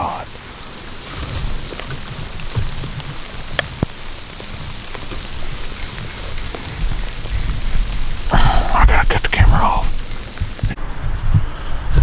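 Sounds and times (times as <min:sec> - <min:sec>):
raindrops ticking close by: 0:00.0 - 0:10.8
steady rain falling: 0:00.0 - 0:12.0.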